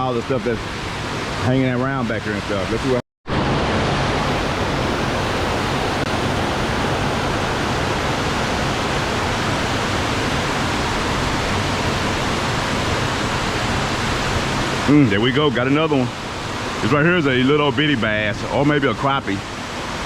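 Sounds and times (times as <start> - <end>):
fast-flowing water rushing: 0.0 - 20.0.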